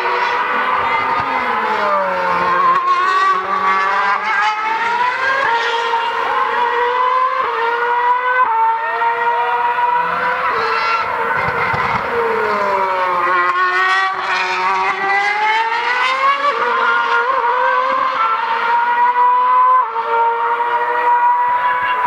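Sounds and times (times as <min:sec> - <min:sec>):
racing car engine at high revs: 0:00.0 - 0:22.0.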